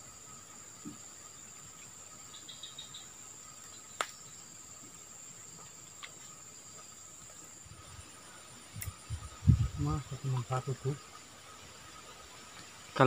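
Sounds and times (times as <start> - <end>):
insects shrilling: 0.0 - 13.0.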